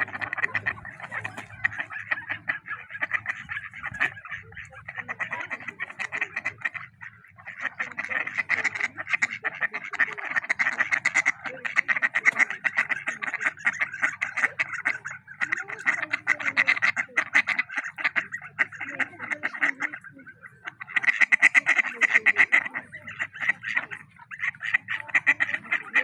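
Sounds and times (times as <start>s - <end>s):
chattering animal calls: 0.0s - 26.0s.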